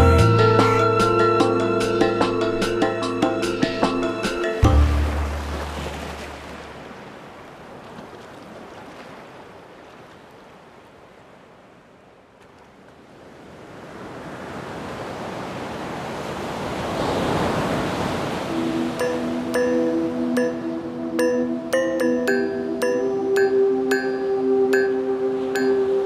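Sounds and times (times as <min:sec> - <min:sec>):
rushing surf-like water: 0:00.6 - 0:26.0.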